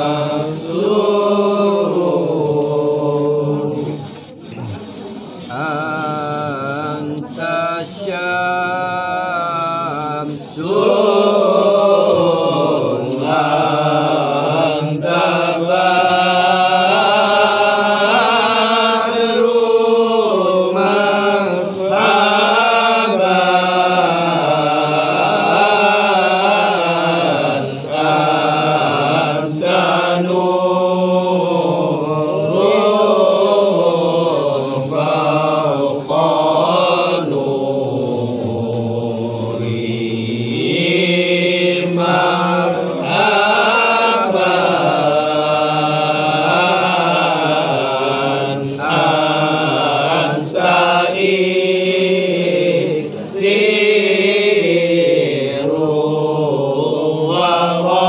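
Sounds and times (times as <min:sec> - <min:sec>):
men chanting together: 0:00.0 - 0:04.8, 0:05.5 - 0:58.0.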